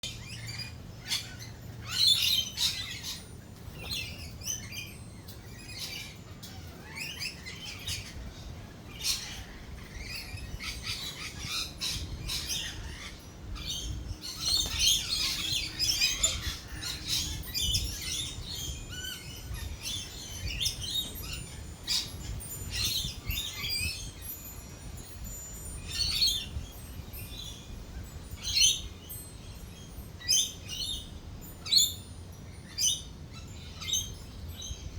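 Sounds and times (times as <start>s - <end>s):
lorikeets shrill chirping: 0.0s - 34.9s.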